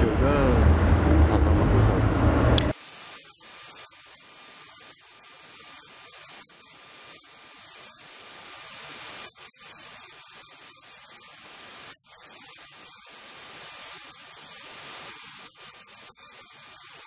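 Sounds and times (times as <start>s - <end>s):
steady static hiss: 0.0s - 17.0s.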